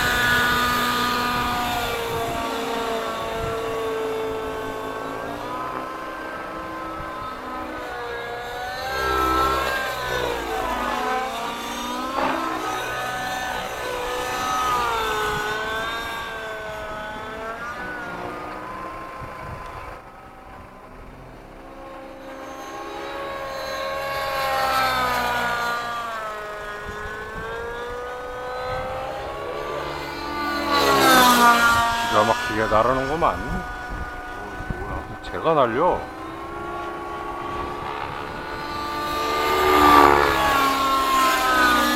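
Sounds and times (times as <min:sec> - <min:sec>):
rc helicopter engine and rotor: 0:00.0 - 0:41.9.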